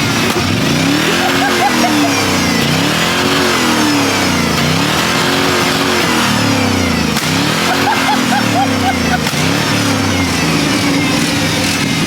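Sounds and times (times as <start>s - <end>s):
diesel truck engine revving: 0.0s - 12.0s.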